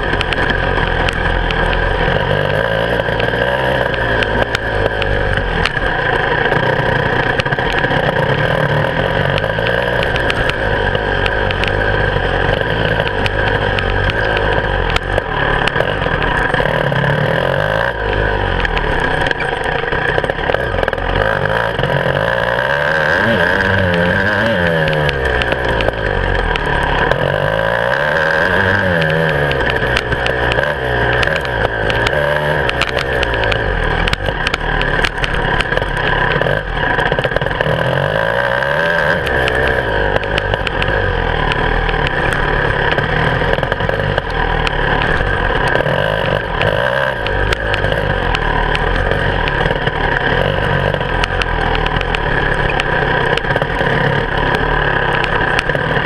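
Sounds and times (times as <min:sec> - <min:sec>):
bike knocks and rattles: 0:00.0 - 0:56.0
motorcycle engine revving: 0:00.0 - 0:56.0.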